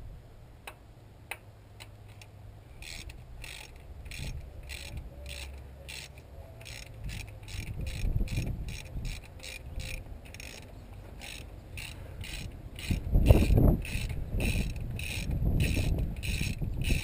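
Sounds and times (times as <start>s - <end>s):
hand ratchet clicking: 1.8s - 17.0s.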